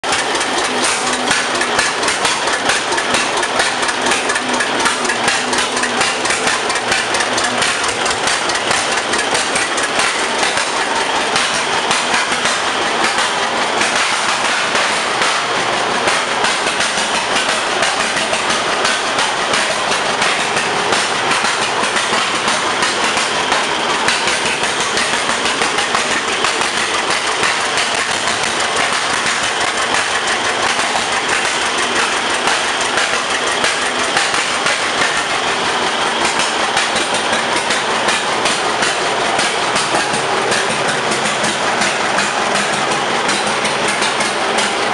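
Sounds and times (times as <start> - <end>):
tractor engine idling: 0.0 - 44.9.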